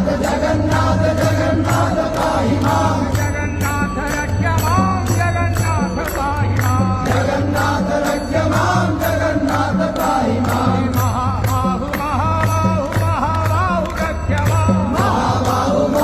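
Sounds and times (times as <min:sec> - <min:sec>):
person chanting singing: 0:00.0 - 0:16.0
struck percussion beat: 0:00.0 - 0:16.0.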